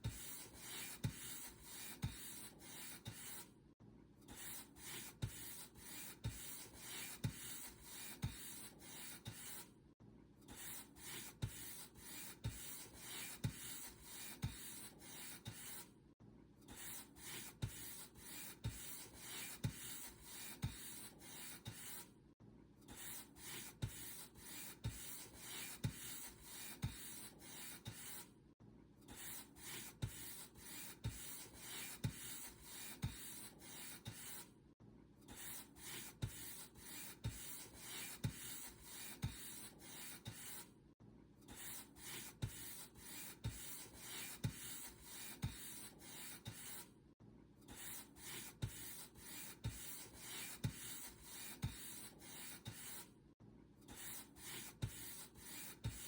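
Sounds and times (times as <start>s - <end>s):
paint brush scratching a surface: 0.0s - 3.5s, 4.3s - 9.7s, 10.5s - 15.9s, 16.7s - 22.1s, 22.9s - 28.3s, 29.1s - 34.5s, 35.3s - 40.7s, 41.5s - 46.9s, 47.7s - 53.1s, 53.9s - 56.0s.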